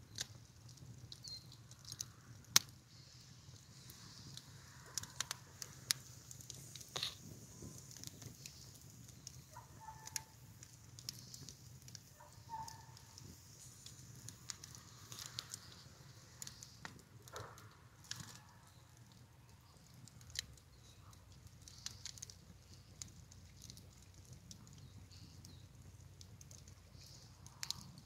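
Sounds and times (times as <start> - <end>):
faint fire crackling: 0.0 - 28.0.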